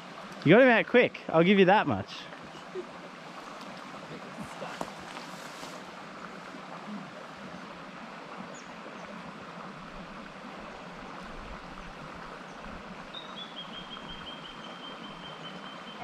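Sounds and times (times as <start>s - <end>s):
creek rippling over rocks: 0.0s - 16.0s.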